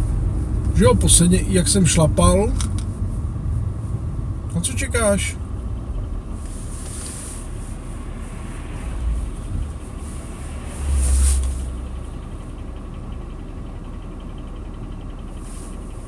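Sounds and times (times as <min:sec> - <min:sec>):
car interior rumble while driving: 0:00.0 - 0:16.0.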